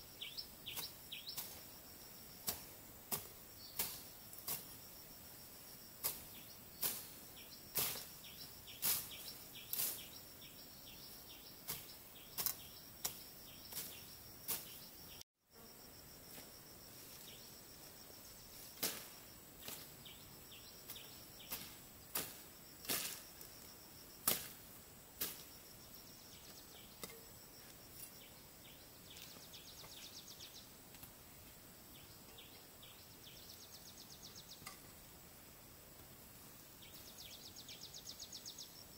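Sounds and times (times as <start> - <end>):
insects hissing: 0.0 - 38.9.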